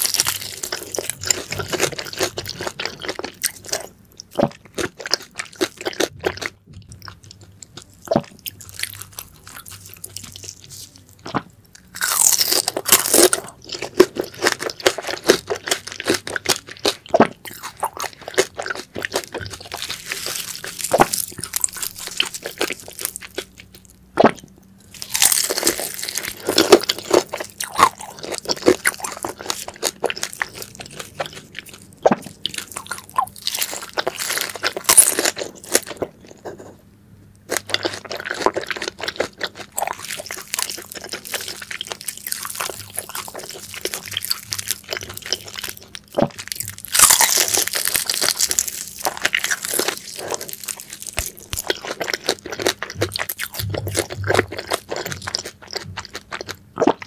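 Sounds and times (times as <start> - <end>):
crunchy chewing of grilled food: 0.0 - 57.0.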